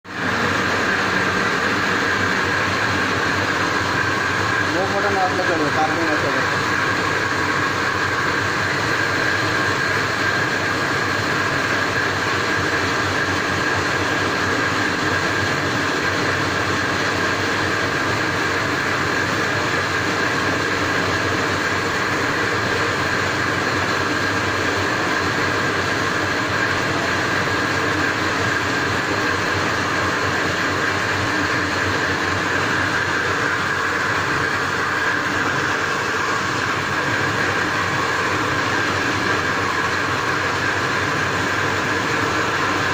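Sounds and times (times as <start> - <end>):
loud mechanical drone: 0.1 - 42.9.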